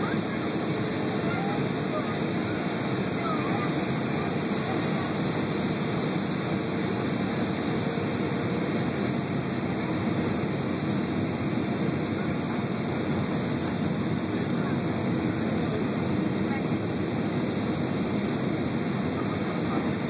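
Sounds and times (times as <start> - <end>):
jet engine and airflow roar: 0.0 - 20.0.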